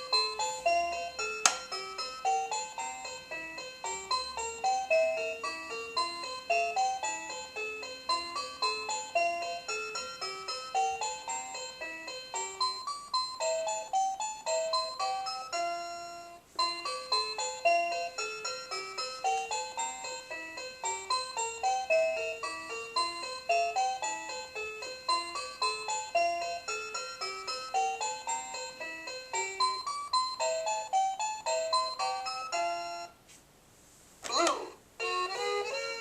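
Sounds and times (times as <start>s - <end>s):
electronic toy melody: 0.0s - 33.1s, 35.0s - 36.0s.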